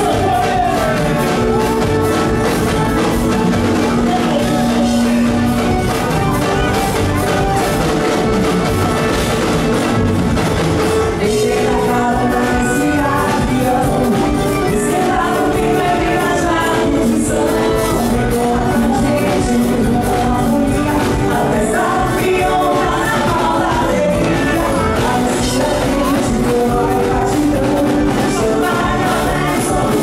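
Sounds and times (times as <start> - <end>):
accordion: 0.0 - 30.0
acoustic guitar: 0.0 - 30.0
live band with singing: 0.0 - 30.0.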